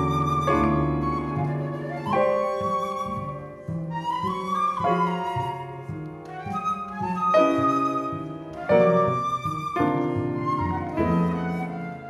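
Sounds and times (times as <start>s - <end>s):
grand piano slow chords: 0.0s - 12.0s.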